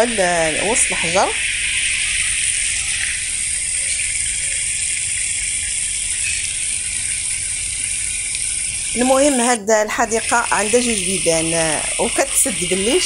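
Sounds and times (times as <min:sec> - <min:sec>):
fountain jet spraying: 0:00.0 - 0:13.0
water running over rocks: 0:00.0 - 0:13.0.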